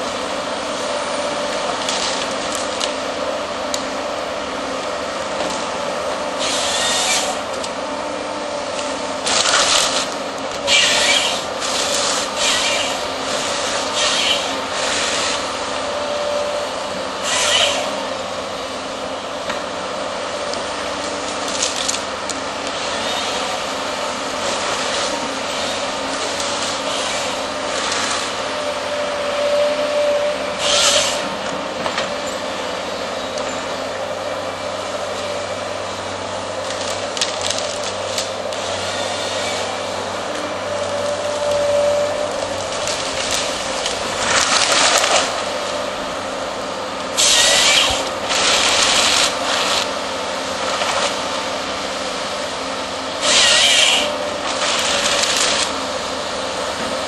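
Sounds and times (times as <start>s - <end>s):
chainsaw cutting through wood: 0.0s - 18.8s, 19.6s - 31.5s, 34.6s - 46.3s, 47.0s - 56.9s
hydraulic whine: 0.0s - 57.0s.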